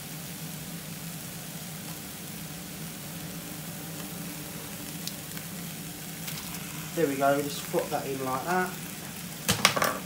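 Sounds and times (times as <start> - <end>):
steady low hum: 0.0 - 9.5
onions sizzling in a pan: 0.0 - 10.0.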